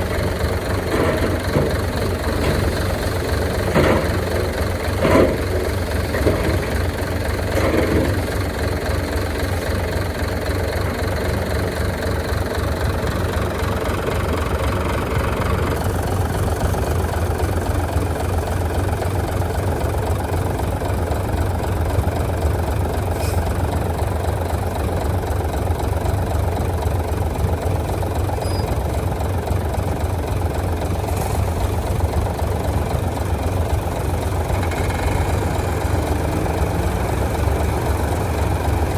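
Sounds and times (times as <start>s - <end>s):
bulldozer diesel engine rumbling: 0.0s - 38.9s.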